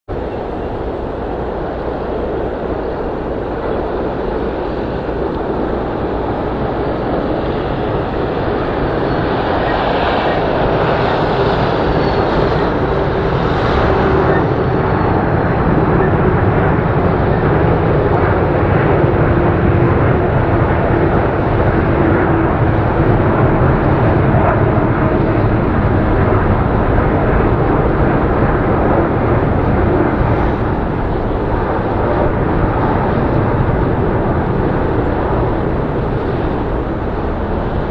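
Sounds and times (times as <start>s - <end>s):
jet engine rushing noise: 0.1s - 37.9s
low steady drone: 0.1s - 37.9s.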